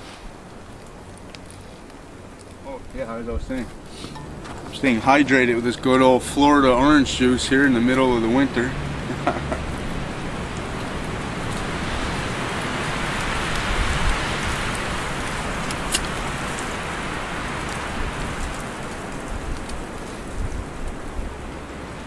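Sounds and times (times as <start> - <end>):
campfire hissing: 0.0 - 22.0
wood crackling: 0.0 - 22.0.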